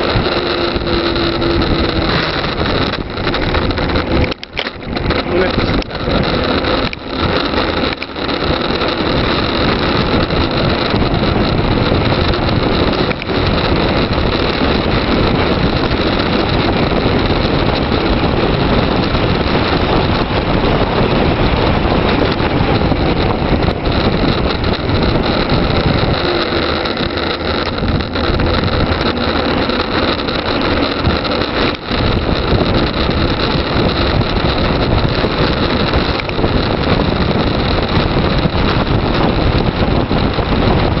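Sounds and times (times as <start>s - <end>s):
road noise: 0.0s - 41.0s
wind roaring over microphone: 0.0s - 41.0s.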